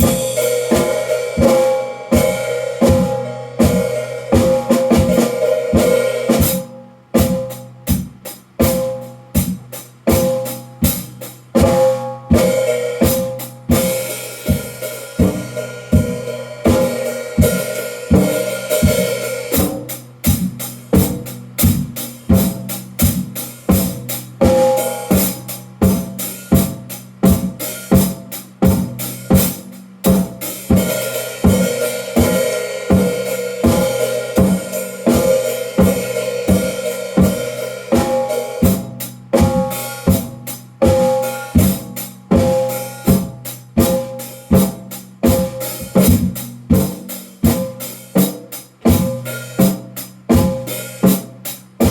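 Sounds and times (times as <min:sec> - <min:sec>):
drum kit groove: 0:00.0 - 0:51.9.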